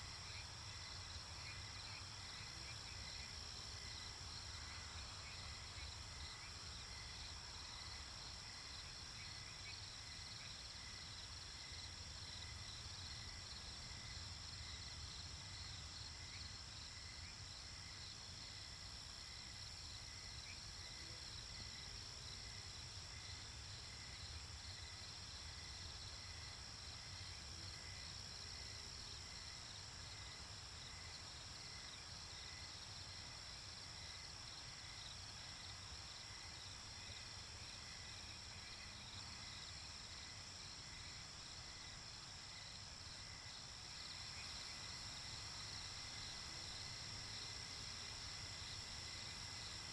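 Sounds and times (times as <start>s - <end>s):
crickets chirping: 0.0s - 49.9s
high insect drone: 0.0s - 49.9s.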